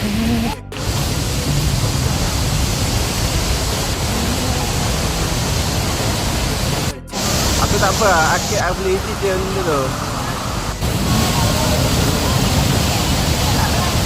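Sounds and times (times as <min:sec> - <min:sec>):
waterfall rushing water: 0:00.8 - 0:14.0.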